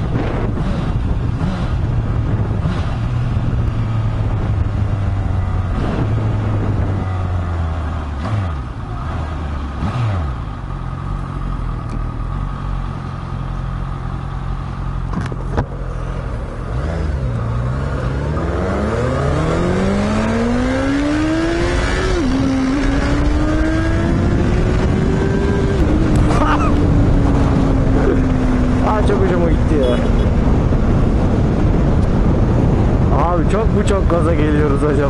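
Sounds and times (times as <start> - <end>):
motorcycle engine revving: 0.0 - 33.4
wind and road noise: 0.0 - 35.0.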